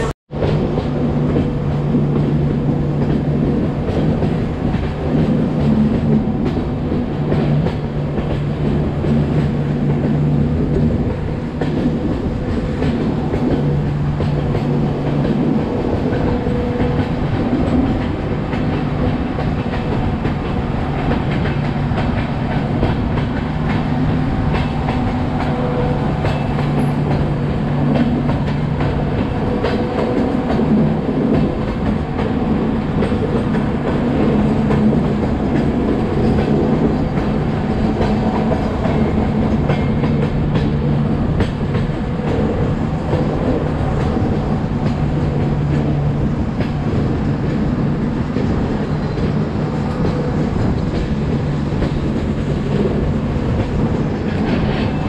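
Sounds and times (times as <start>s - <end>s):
train wheels clacking on rail joints: 0.3s - 55.0s.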